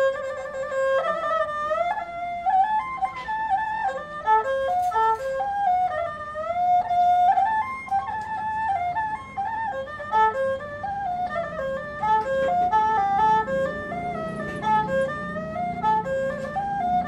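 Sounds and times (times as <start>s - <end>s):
bowed spike fiddle melody: 0.0s - 17.0s.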